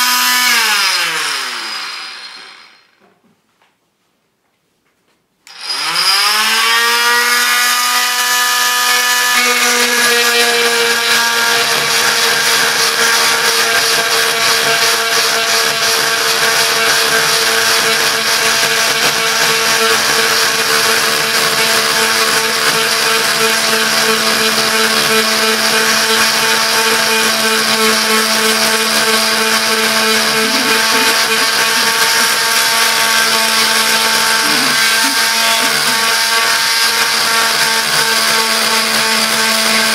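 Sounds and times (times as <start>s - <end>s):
multi-tool cutting wood: 0.0s - 3.0s, 5.4s - 39.9s.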